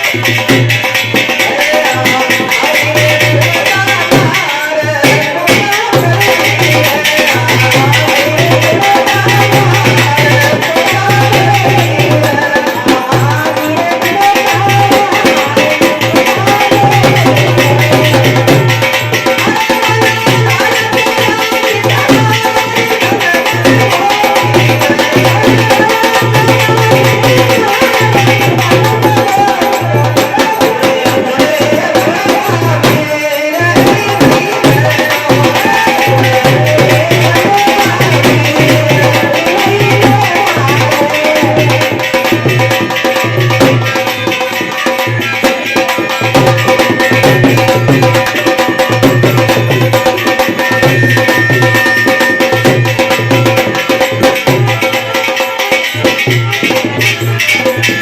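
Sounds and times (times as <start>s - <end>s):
fast hand drum: 0.0s - 58.0s
rattling percussion: 0.0s - 58.0s.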